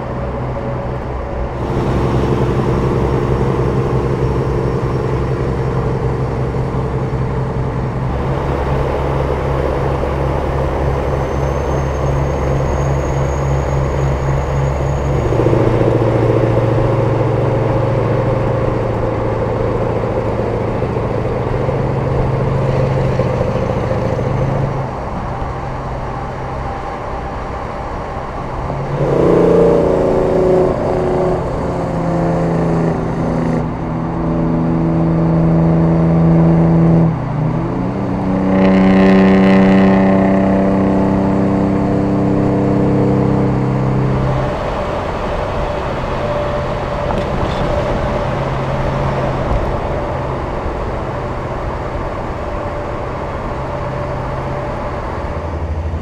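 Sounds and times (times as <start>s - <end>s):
diesel truck engines cruising: 0.0s - 56.0s.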